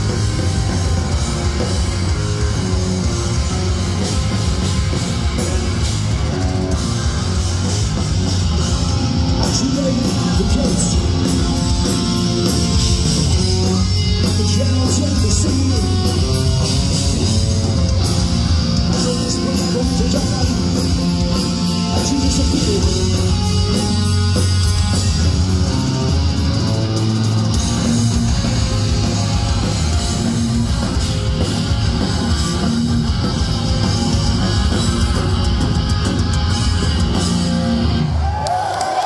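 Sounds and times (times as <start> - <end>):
punk rock band playing live: 0.0 - 39.0.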